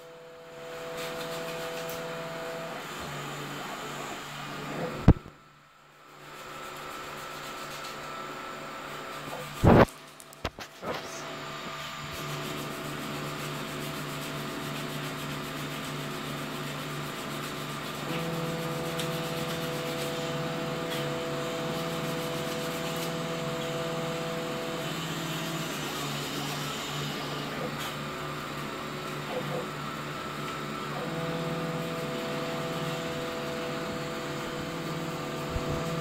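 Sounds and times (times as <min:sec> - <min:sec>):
milling machine whir: 0:06.2 - 0:36.0.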